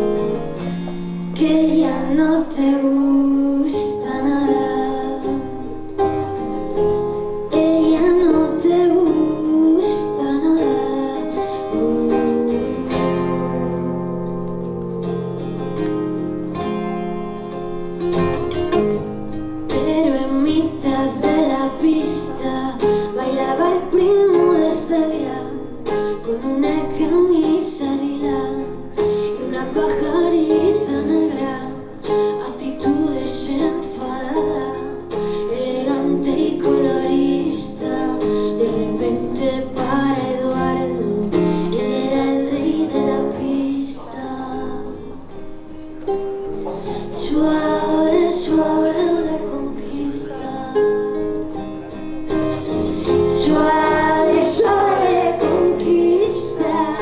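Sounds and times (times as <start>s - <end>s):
acoustic guitars playing: 0.0s - 57.0s
woman singing: 1.3s - 5.8s, 7.5s - 15.1s, 19.7s - 45.2s, 46.9s - 51.3s, 53.0s - 57.0s.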